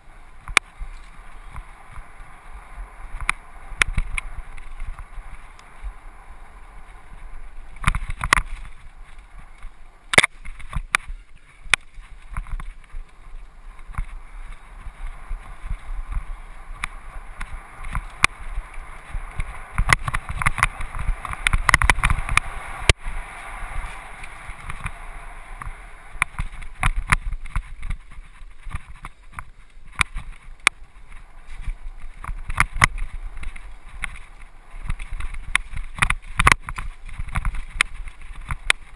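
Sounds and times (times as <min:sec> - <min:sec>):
bike rattling over bumps: 0:00.0 - 0:38.9
tyre and wind noise: 0:00.0 - 0:38.9.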